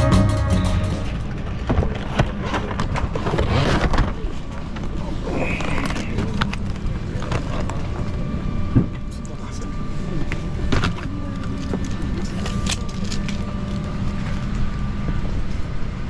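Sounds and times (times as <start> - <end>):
murmur of passengers talking: 1.0 - 16.0.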